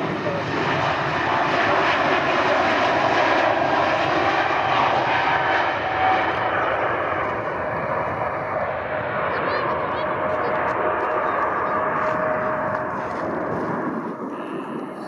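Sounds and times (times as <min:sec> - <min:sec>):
airliner engines roaring: 0:00.0 - 0:15.0.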